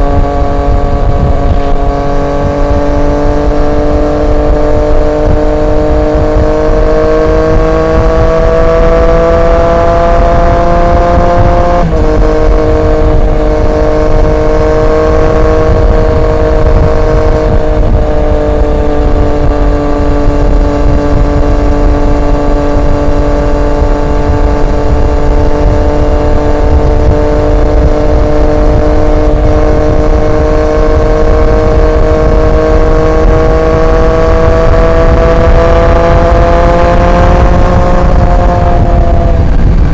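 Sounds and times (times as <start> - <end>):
low rushing noise: 0.0 - 39.9
motorcycle engine revving: 0.0 - 39.9.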